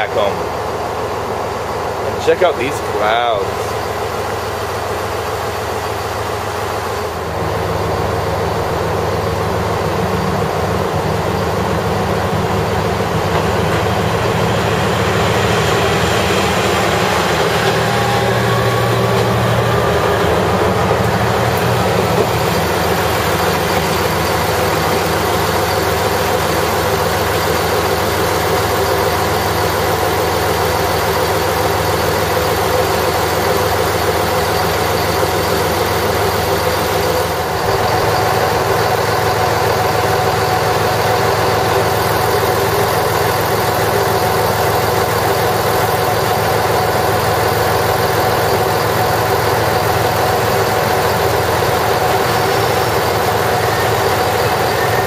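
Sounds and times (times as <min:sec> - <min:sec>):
diesel train engine idling: 0:00.0 - 0:55.0.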